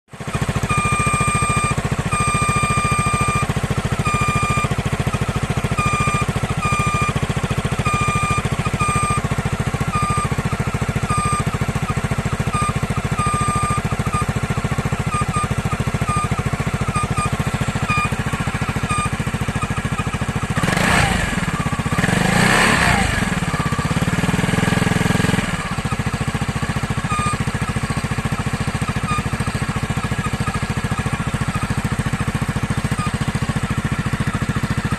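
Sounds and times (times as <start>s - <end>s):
engine idling: 0.1s - 34.9s.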